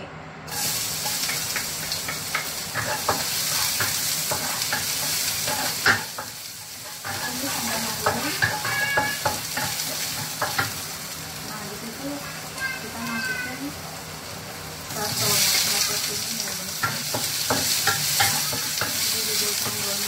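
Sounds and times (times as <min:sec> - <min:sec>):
garlic sizzling in hot oil: 0:00.5 - 0:20.0.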